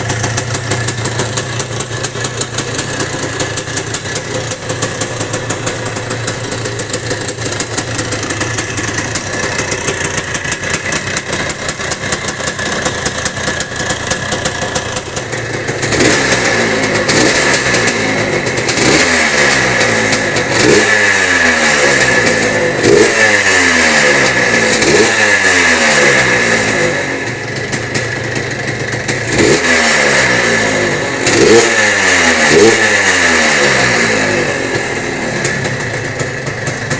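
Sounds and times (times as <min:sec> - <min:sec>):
two-stroke engine idling and revving: 0:00.0 - 0:36.9.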